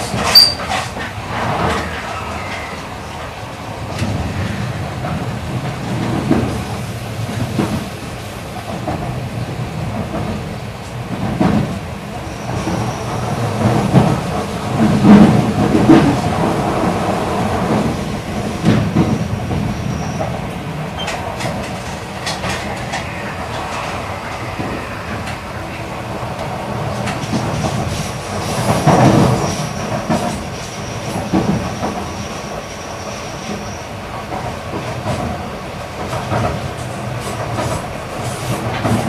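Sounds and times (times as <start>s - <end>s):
train knocks: 0.0s - 39.0s
train wheels rumbling on rail: 0.0s - 39.0s.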